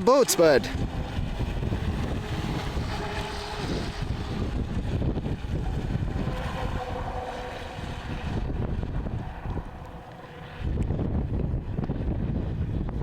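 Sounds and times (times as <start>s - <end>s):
wind buffeting microphone: 0.0s - 13.0s
electric motor whining: 0.3s - 13.0s.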